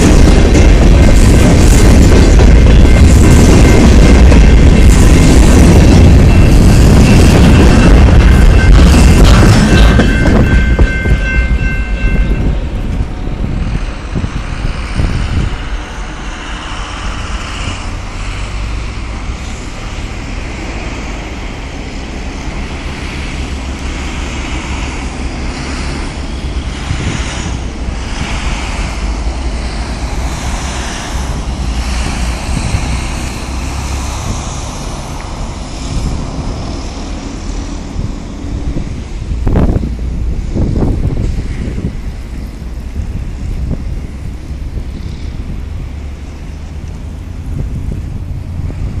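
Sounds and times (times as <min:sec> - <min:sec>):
train wheels rumbling on rails: 0:00.0 - 0:49.0
wind buffeting microphone: 0:00.0 - 0:49.0.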